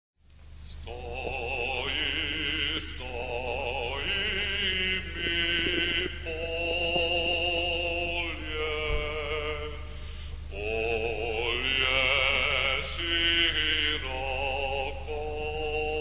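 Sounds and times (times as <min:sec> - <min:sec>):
low steady hum: 0:00.2 - 0:16.0
vocal ensemble singing with vibrato: 0:00.7 - 0:16.0.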